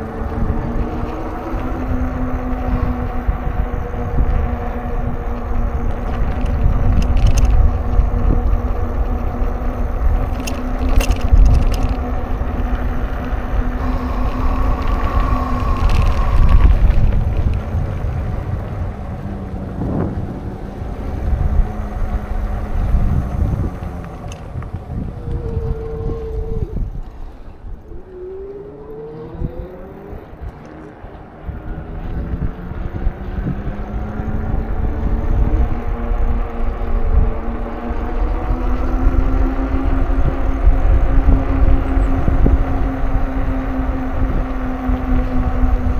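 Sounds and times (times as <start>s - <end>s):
traffic passing: 0.0s - 45.9s
wind rumbling on microphone: 0.0s - 45.9s.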